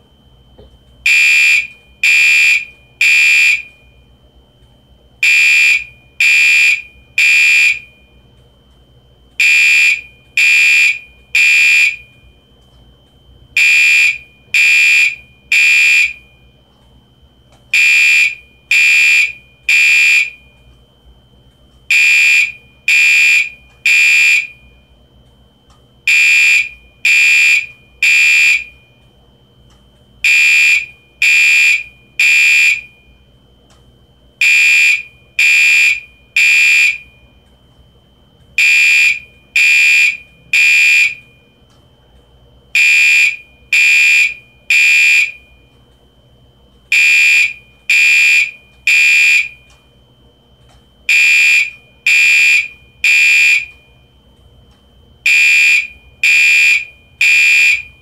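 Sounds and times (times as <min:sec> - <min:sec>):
faint high whine: 0:00.0 - 0:58.0
fire alarm horn blasts: 0:00.0 - 0:58.0.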